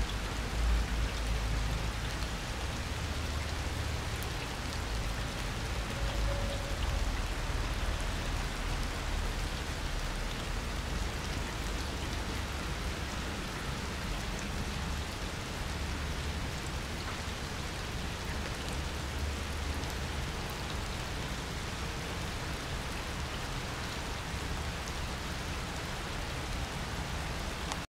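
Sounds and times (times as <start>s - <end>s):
rain on concrete: 0.0s - 27.9s.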